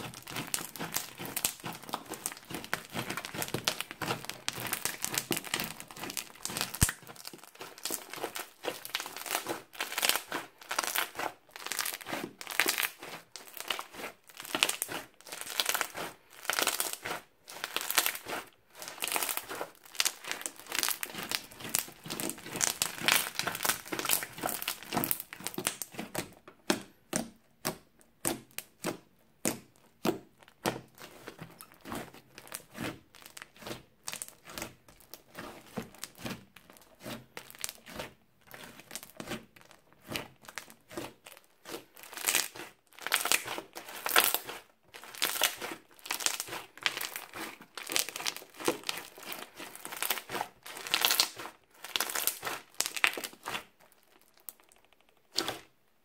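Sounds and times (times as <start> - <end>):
crunchy slime crackling and popping: 0.0 - 55.8.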